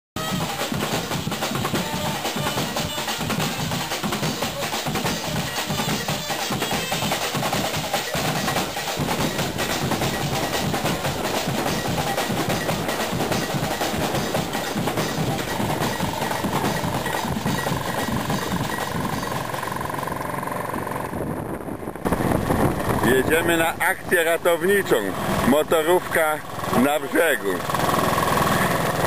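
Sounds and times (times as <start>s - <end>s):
percussion music with busy drum beat: 0.2s - 19.8s, 23.0s - 29.0s.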